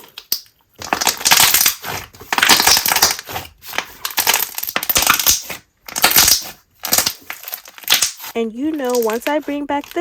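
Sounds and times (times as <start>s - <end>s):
slime crackling and popping: 0.0s - 10.0s.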